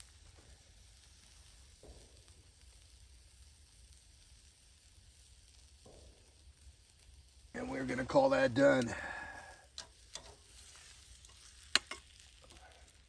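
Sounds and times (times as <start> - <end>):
steak sizzling on a grill: 0.0 - 13.0.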